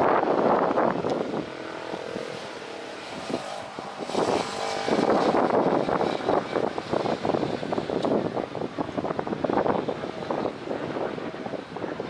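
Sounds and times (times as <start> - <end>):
cars and motorbikes passing: 0.0 - 12.0.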